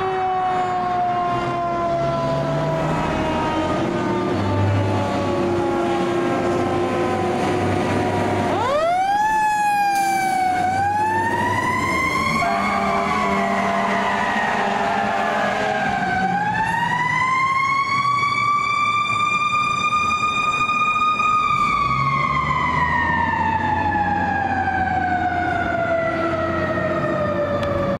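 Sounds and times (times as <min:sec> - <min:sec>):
fire engine siren: 0:00.0 - 0:28.0.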